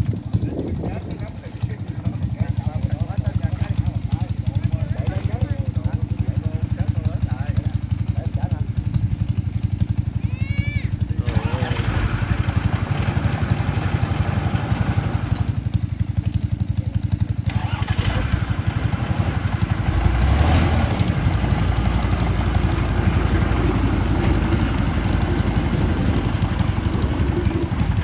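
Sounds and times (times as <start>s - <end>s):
farm machine engine throbbing: 0.0s - 28.0s.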